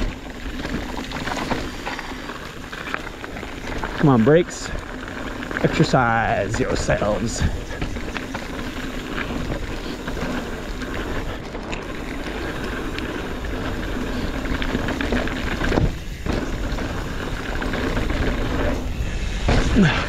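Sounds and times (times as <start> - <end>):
bike rattles and clicks: 0.0 - 20.0
bike tyres rolling on dirt: 0.0 - 20.0.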